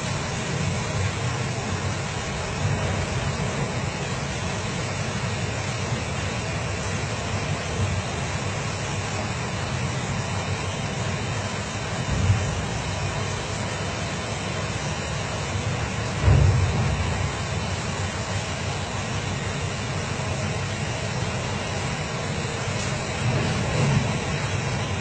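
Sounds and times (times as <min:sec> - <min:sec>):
rough sea: 0:00.0 - 0:25.0.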